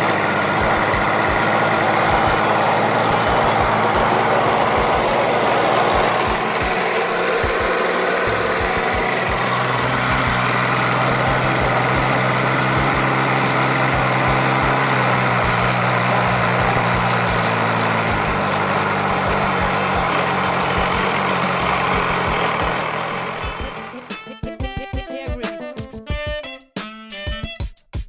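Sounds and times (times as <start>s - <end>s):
model airplane engine running: 0.0s - 24.5s.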